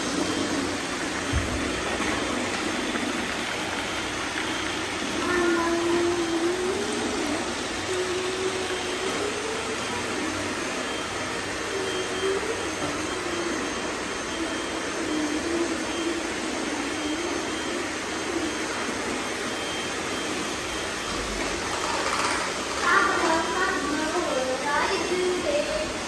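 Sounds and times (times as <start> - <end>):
robot vacuums humming: 0.0 - 26.0
wavering motor whine: 0.0 - 26.0.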